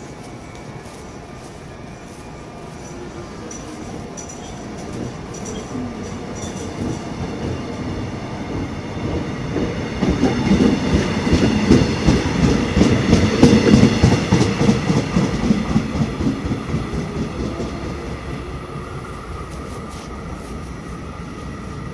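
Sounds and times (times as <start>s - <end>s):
train wheels clattering on track: 2.8s - 21.9s.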